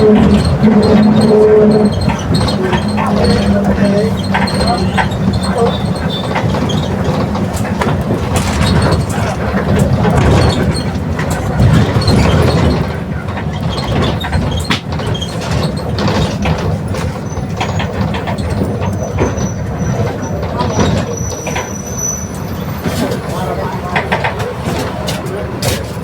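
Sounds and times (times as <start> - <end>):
bus body rattles: 0.0 - 26.0
bus drivetrain running: 0.0 - 26.0.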